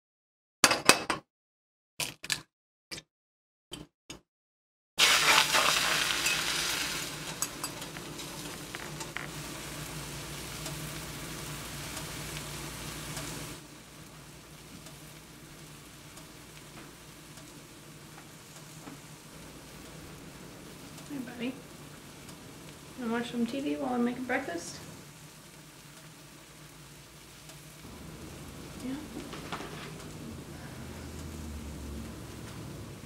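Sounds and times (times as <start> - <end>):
batter sizzling in frying pan: 5.0 - 33.0.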